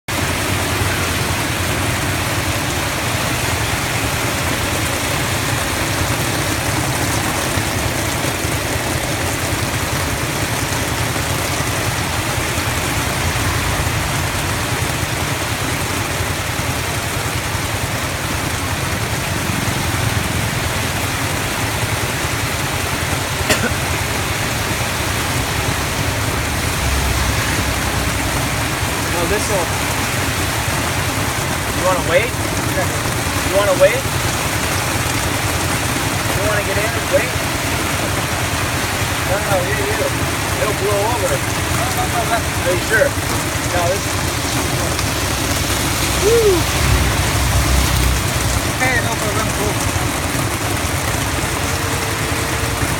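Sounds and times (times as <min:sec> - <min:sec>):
heavy rain hissing: 0:00.1 - 0:52.9
small motorcycle engine running: 0:00.2 - 0:46.0, 0:46.8 - 0:52.9.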